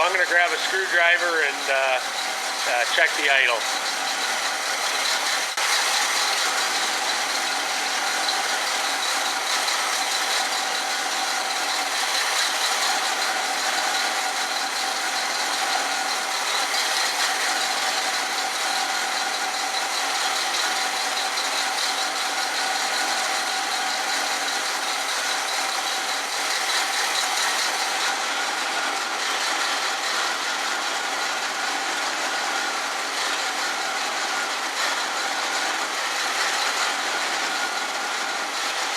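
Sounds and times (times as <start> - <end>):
car engine idling with rattle: 0.0 - 38.9.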